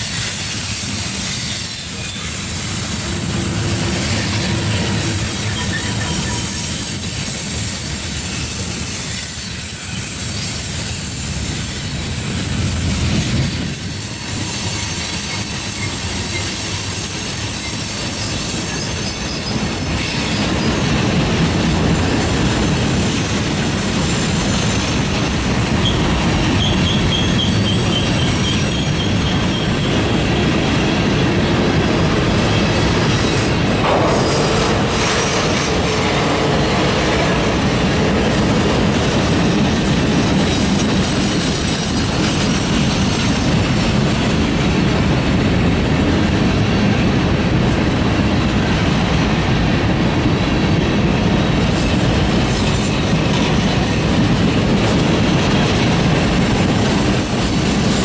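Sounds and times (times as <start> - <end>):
train rumble: 0.0 - 58.0
train wheels squealing on rails: 0.0 - 58.0.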